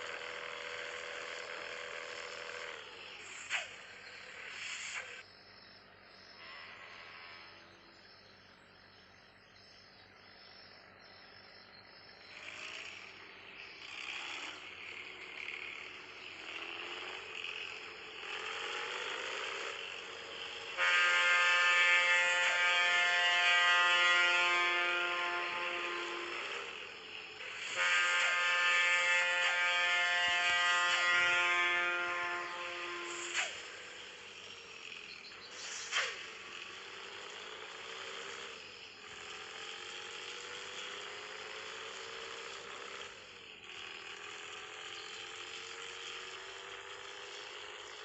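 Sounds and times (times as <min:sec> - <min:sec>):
insects chirring: 0:02.1 - 0:20.8, 0:21.8 - 0:43.6.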